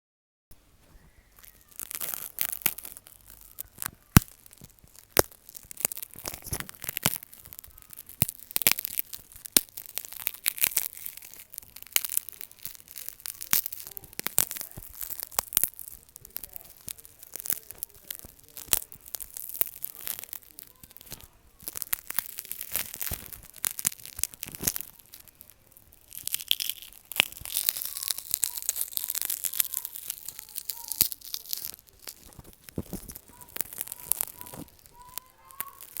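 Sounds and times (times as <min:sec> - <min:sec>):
glass cracking and crunching: 0:01.4 - 0:36.0.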